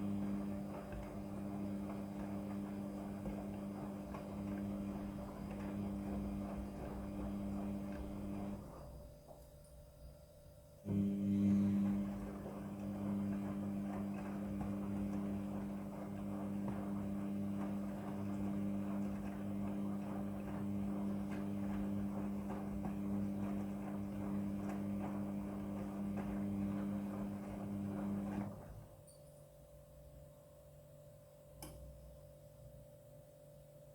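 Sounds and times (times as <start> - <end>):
washing machine humming: 0.0 - 33.9.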